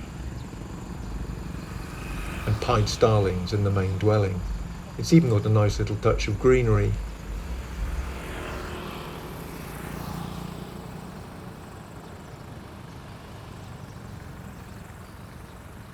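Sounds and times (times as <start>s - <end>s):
motor vehicle passing: 0.0s - 15.9s
traffic background hum: 0.0s - 15.9s.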